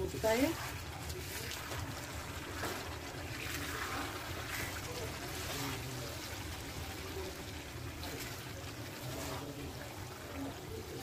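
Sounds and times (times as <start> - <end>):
curry sizzling and bubbling: 0.0 - 11.0
spatula stirring in pan: 0.0 - 11.0.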